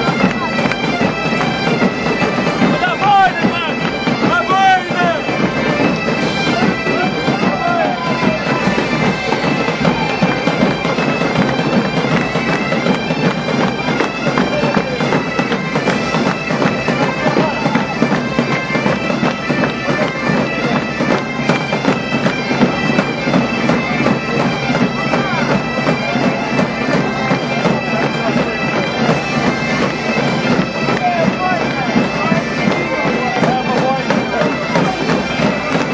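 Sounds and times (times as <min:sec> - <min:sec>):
bagpipes playing a tune: 0:00.0 - 0:35.9
snare and bass drums: 0:00.0 - 0:35.9.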